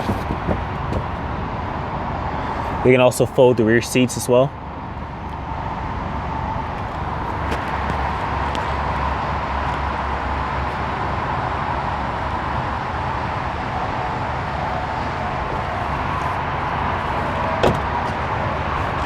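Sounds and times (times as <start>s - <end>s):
outdoor rumble and hiss: 0.0s - 19.0s.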